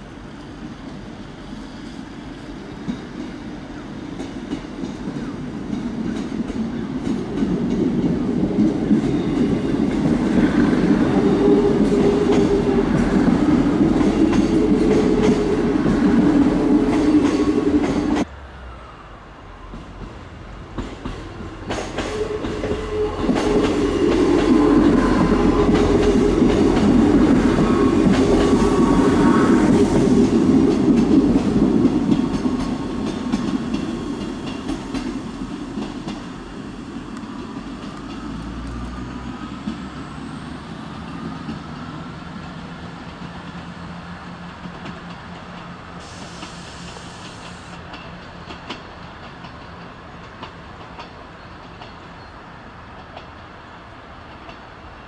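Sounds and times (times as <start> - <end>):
diesel train rumbling past: 0.0 - 55.0.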